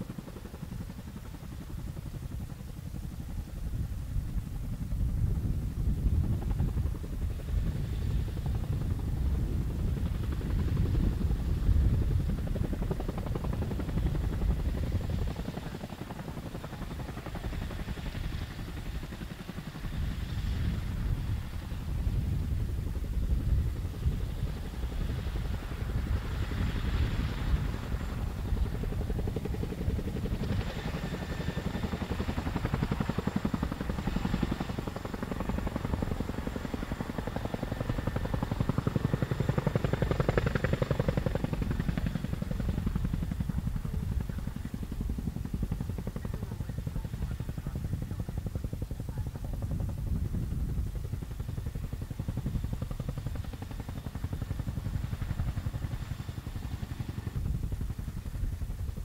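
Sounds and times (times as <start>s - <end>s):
helicopter engine noise: 0.0s - 59.0s
helicopter rotors beating: 0.0s - 59.0s.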